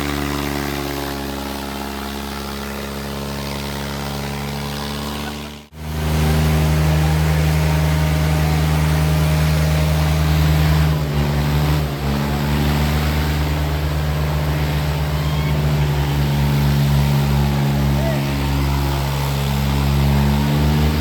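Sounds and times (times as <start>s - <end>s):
tractor engines running hard: 0.0s - 21.0s.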